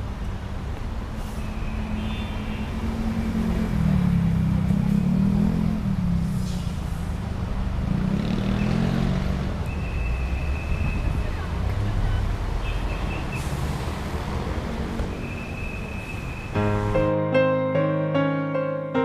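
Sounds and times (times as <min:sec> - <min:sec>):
vehicle engine rumbling: 0:00.0 - 0:17.1.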